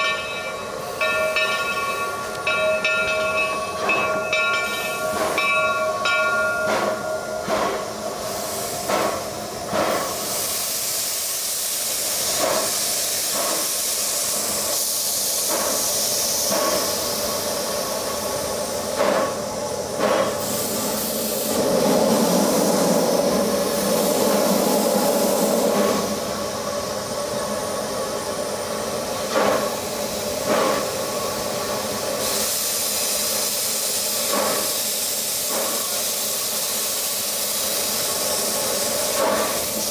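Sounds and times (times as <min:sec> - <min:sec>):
steam locomotive hissing: 0:00.0 - 0:39.9
short sharp steam puffs: 0:06.6 - 0:39.9.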